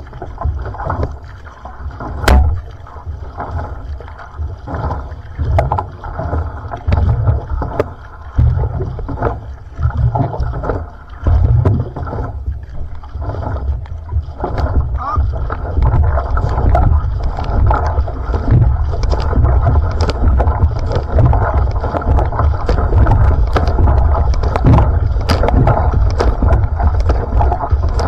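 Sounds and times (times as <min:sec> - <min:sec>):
paddle strokes in water: 0:00.0 - 0:28.0
water rushing along hull: 0:00.0 - 0:28.0.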